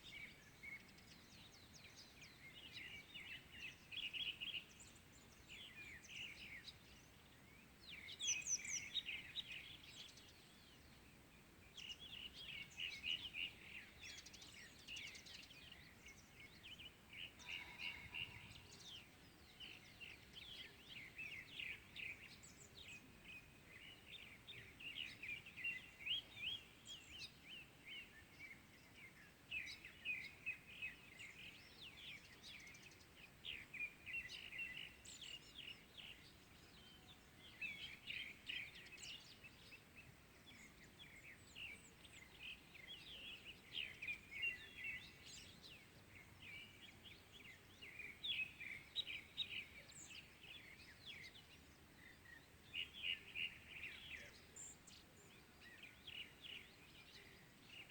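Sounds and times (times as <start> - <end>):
faint steady hiss: 0.0 - 57.9
small birds chirping: 0.0 - 57.9.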